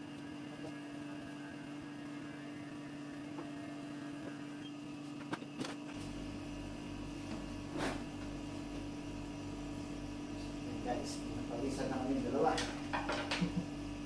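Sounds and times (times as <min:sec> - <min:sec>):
low pulsing buzz: 0:00.0 - 0:14.0.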